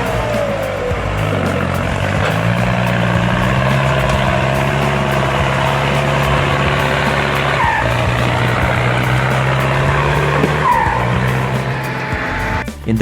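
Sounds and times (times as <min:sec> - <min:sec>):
diesel engine under load: 0:00.0 - 0:12.6.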